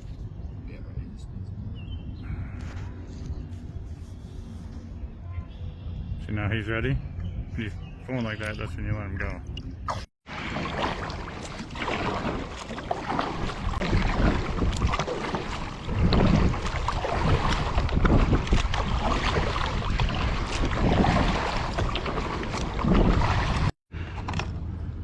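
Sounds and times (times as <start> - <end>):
wind buffeting microphone: 0.0 - 10.0, 10.9 - 23.8.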